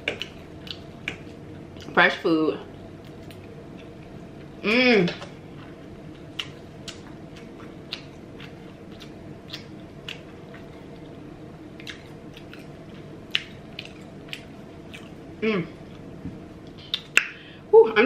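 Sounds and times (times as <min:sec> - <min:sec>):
person chewing food: 0:00.0 - 0:01.9, 0:02.8 - 0:17.4
faint low hum: 0:00.0 - 0:18.0.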